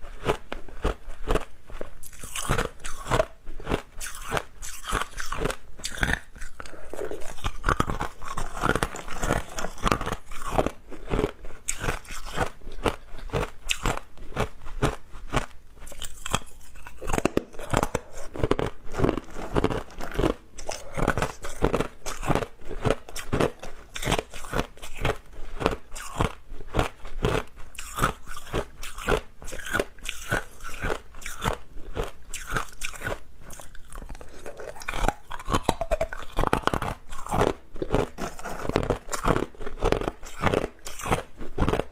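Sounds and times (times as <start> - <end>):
ice being crunched and chewed: 0.0 - 41.9.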